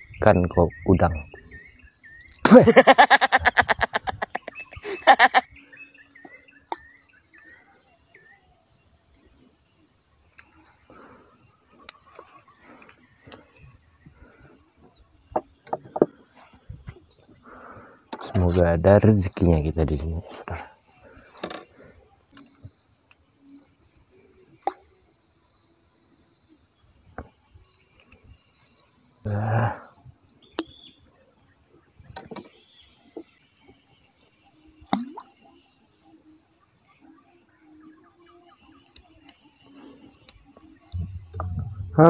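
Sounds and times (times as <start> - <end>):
insects droning: 0.0 - 42.0.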